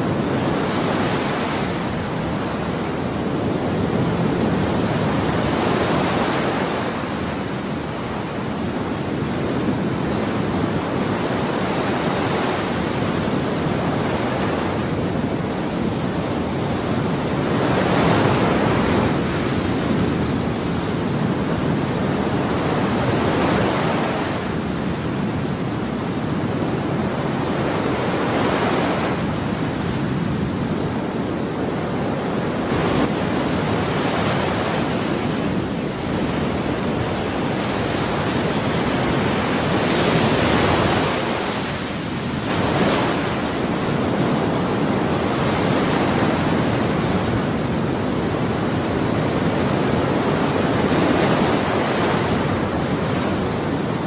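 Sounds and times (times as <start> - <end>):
ocean surf waves breaking: 0.0 - 54.0.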